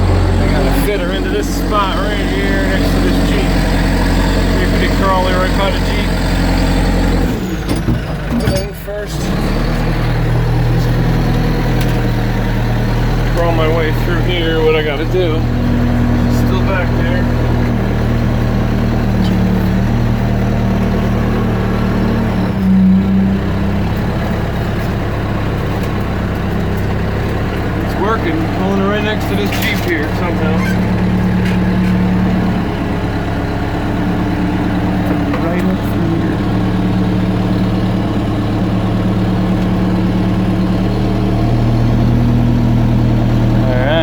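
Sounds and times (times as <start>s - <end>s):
backhoe engine running under load: 0.0s - 44.0s.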